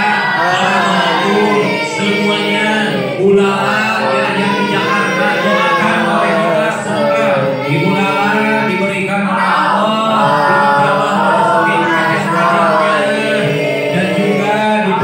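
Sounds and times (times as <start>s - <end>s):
group chanting prayer: 0.0s - 15.0s
man leading on a microphone: 0.0s - 15.0s.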